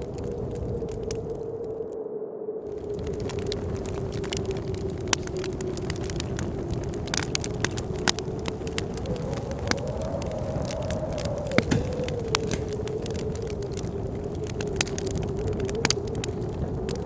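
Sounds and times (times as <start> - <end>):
wood fire crackling and popping: 0.0 - 1.9, 2.7 - 17.0
moaning blizzard wind: 0.0 - 17.0.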